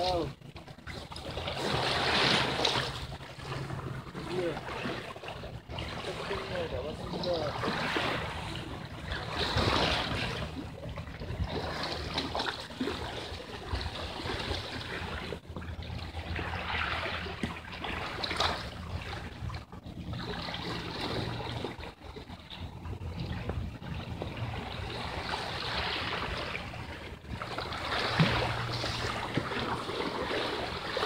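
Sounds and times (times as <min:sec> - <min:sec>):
waves splashing against rocks: 0:00.0 - 0:31.0.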